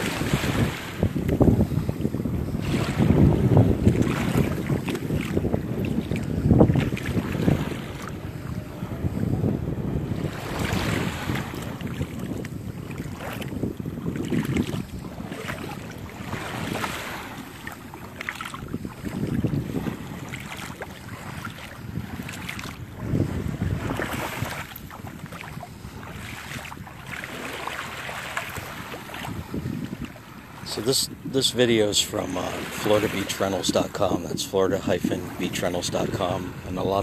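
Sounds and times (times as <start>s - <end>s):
small waves washing on sand: 0.0s - 37.0s
wind gusting on microphone: 0.0s - 37.0s.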